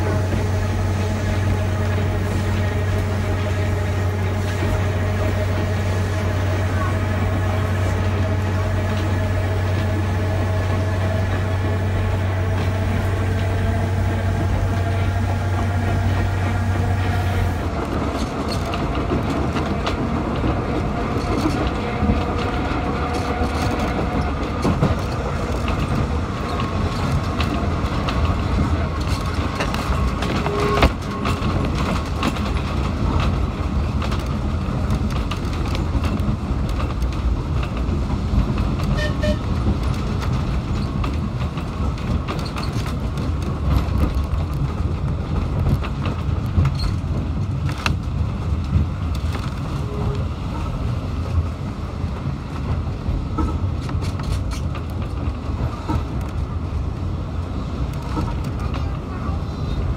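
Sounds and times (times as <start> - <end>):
tram rumbling along track: 0.0 - 59.9
wheels clicking over rails: 0.0 - 59.9.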